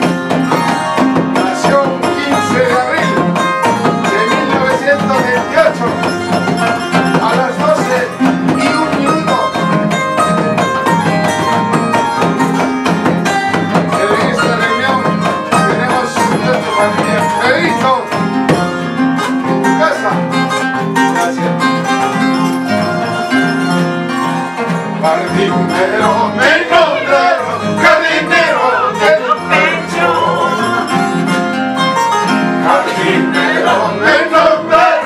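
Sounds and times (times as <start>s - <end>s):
acoustic guitar: 0.0s - 35.0s
hand beating harp soundbox: 0.0s - 35.0s.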